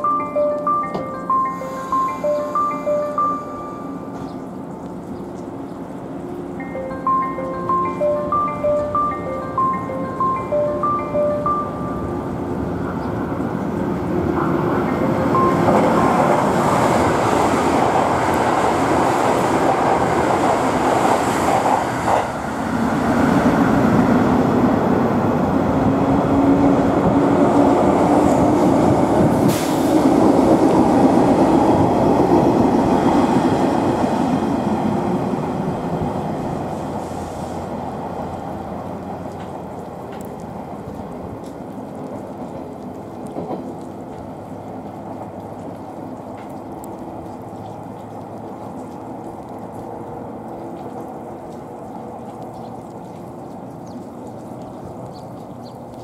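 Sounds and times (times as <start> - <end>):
train wheels rumbling: 0.0 - 52.2.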